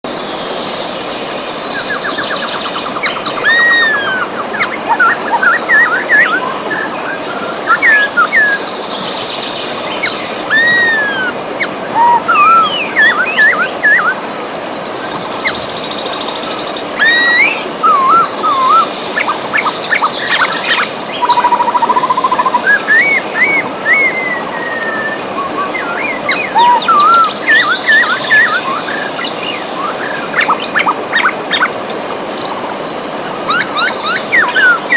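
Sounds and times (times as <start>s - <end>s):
river water flowing: 0.1s - 34.9s
birds singing: 0.2s - 34.9s.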